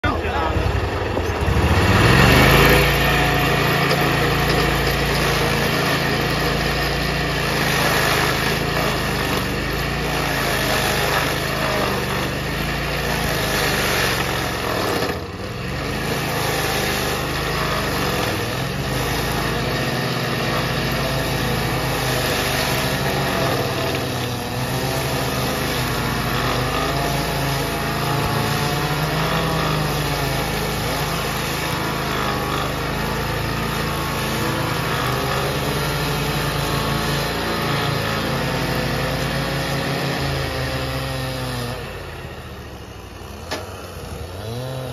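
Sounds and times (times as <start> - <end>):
lathe cutter chipping wood: 0.0 - 44.9
small gasoline engine running: 0.0 - 44.9.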